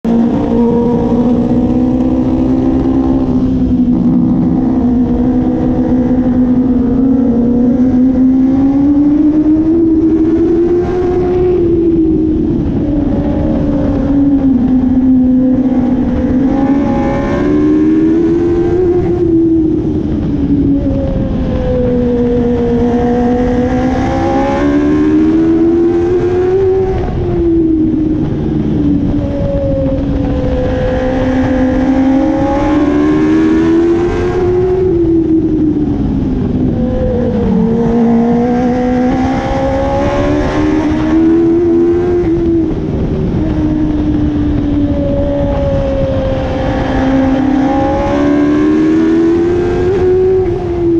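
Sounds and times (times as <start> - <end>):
race car engine at high revs: 0.0 - 50.9.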